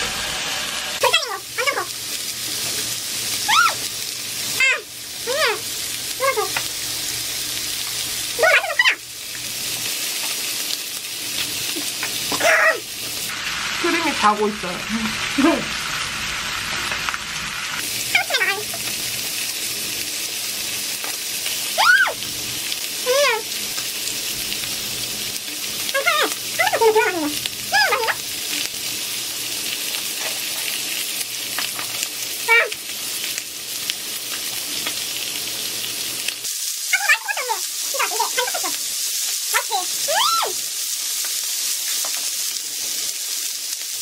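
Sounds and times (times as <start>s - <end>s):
pork sizzling in a pan: 0.0s - 44.0s.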